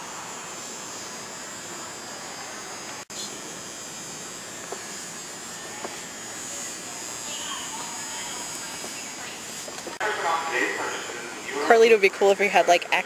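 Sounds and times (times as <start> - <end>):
store background hiss and hum: 0.0 - 13.0.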